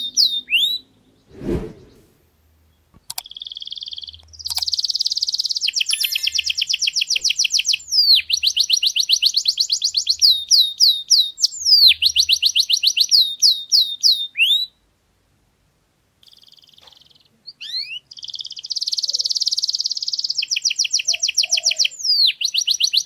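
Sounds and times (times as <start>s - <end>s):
canary singing trills: 0.0s - 1.9s, 3.1s - 14.8s, 16.2s - 23.0s.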